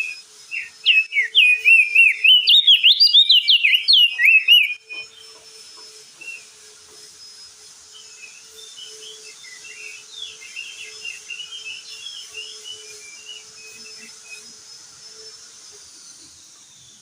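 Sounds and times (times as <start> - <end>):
bird singing twittering chirps: 0.0 - 6.5, 7.9 - 16.2
thin high whistle-like tone: 0.0 - 17.0.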